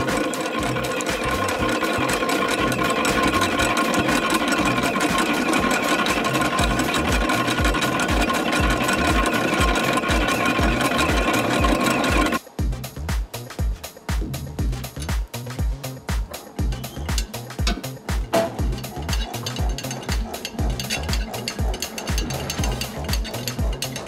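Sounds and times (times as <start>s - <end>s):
mixer mechanical whir: 0.0s - 12.4s, 16.4s - 24.0s
low rhythmic thudding: 0.0s - 24.0s.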